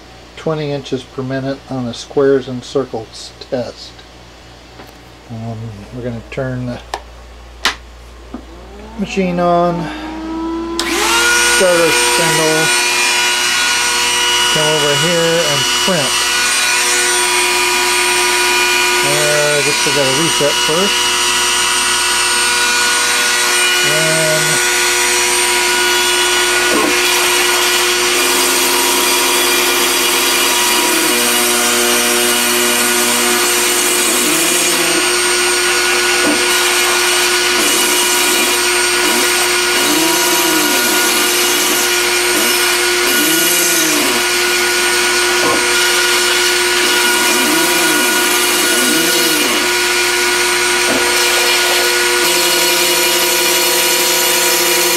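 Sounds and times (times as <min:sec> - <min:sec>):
stepper motors whining: 0:08.0 - 0:54.9
spindle motor running: 0:08.1 - 0:54.9.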